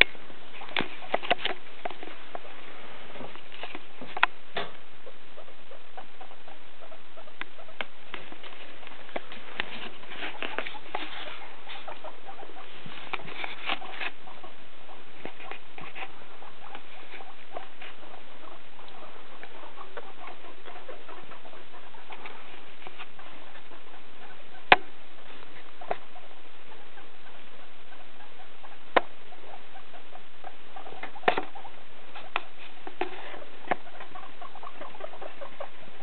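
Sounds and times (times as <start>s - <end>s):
guinea pigs rustling in hay: 0.0s - 36.0s.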